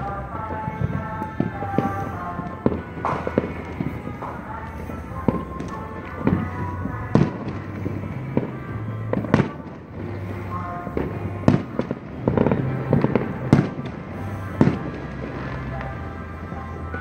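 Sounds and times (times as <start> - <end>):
fireworks and firecrackers banging: 0.0 - 17.0
music playing: 0.0 - 17.0.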